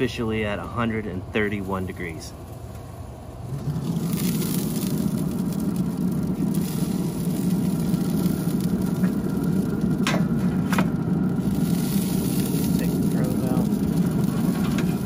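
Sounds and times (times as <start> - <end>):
smoker fire and fan rumble: 0.0 - 15.0.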